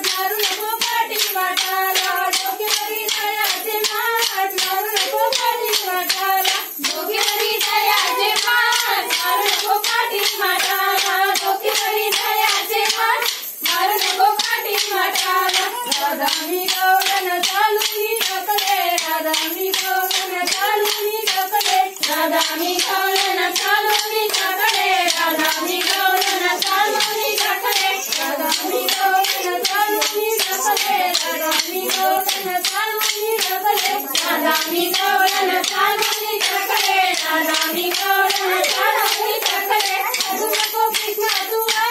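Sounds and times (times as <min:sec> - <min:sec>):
women singing in unison: 0:00.0 - 0:41.9
wooden sticks clacking: 0:06.4 - 0:41.8.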